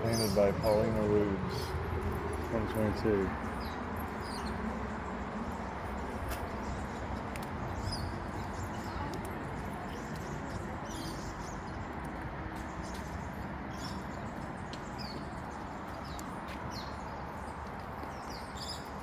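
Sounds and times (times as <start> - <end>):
outdoor background hum: 0.0 - 19.0.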